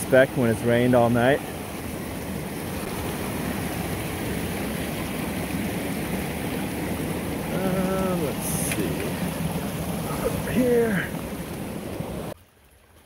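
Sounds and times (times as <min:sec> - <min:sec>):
creek water rushing over stones: 0:00.0 - 0:13.0.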